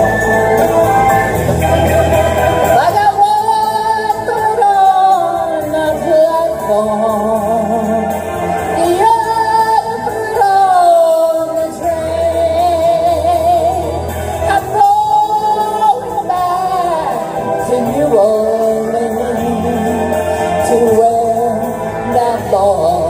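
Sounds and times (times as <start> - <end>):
recorded backing track: 0.0 - 23.0
woman singing into a microphone: 2.6 - 23.0.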